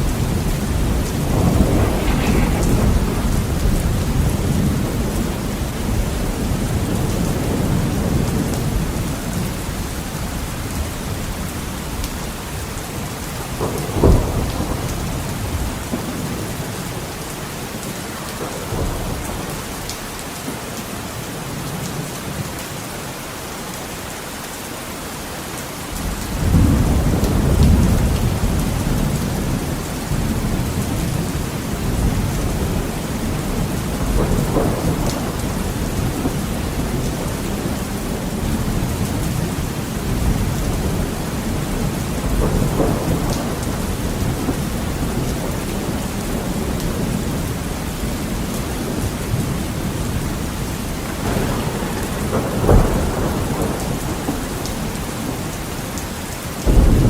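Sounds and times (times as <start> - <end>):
thunder rumbling: 0.0 - 11.4, 12.0 - 17.2, 26.3 - 57.0
heavy rain on a window: 0.0 - 57.0.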